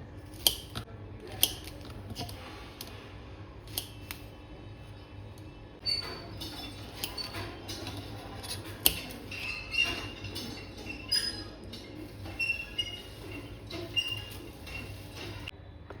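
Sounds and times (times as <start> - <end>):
kitchen utensils tapping and clicking: 0.2 - 3.0, 3.7 - 4.3, 5.4 - 15.5.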